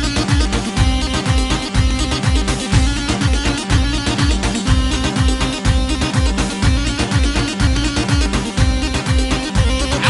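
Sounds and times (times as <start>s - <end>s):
electronic dance beat: 0.0s - 10.0s.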